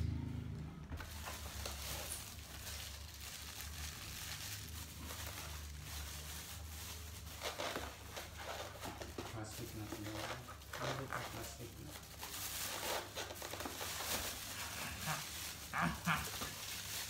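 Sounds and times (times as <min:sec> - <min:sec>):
plastic packaging crinkling: 0:00.9 - 0:17.0.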